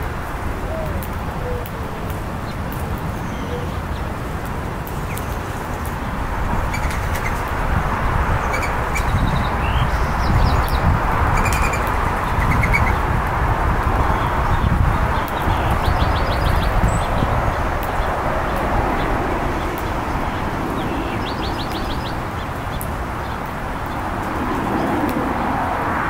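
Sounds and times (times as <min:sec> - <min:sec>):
songbirds chirping and trilling: 0:00.0 - 0:26.0
steady rushing noise: 0:00.0 - 0:26.0.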